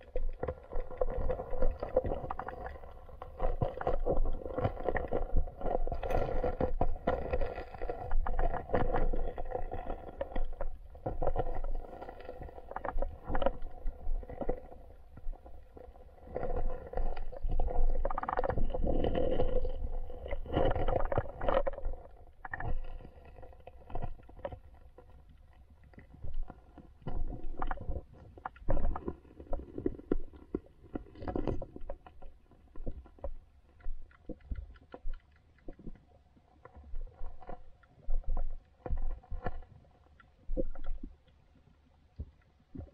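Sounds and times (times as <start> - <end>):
underwater knocks and rumbles: 0.0 - 41.3, 42.2 - 42.9.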